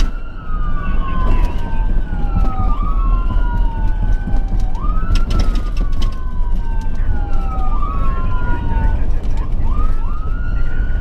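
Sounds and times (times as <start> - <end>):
ambulance siren wailing: 0.0 - 11.0
engine and road rumble: 0.0 - 11.0.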